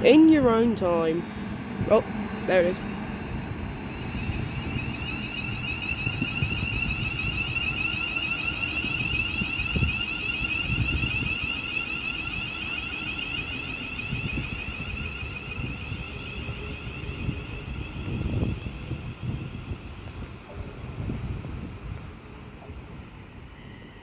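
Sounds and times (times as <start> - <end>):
high-pitched warbling whine: 0.0 - 21.7
train wheels rumbling: 0.0 - 24.0.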